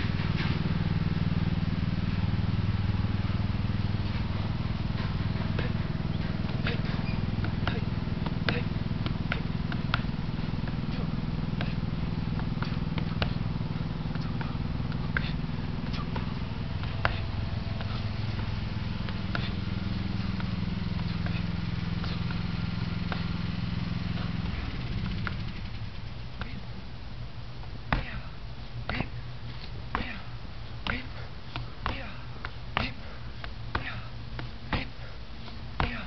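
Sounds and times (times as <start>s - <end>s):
low engine drone: 0.0s - 36.0s.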